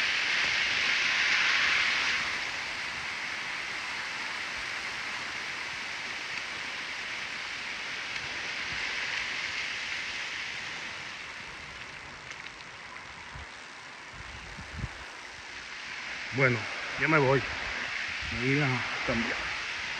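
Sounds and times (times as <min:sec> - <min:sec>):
water rushing over rock: 0:00.0 - 0:12.9, 0:14.5 - 0:19.9.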